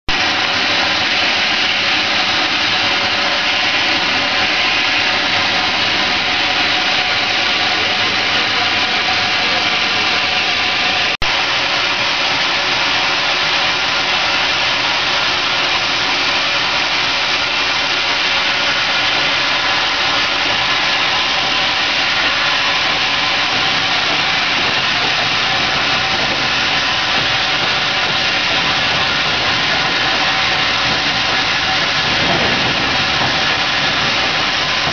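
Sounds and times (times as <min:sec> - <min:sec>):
steam locomotive hiss and roar: 0:00.1 - 0:34.9.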